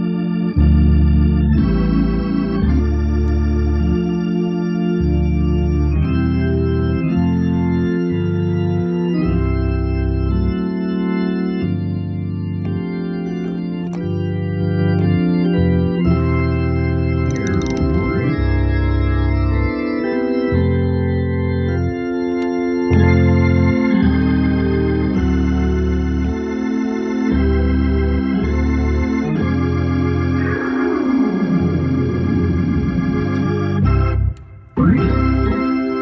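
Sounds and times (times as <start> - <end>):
organ playing slow gospel: 0.0 - 36.0.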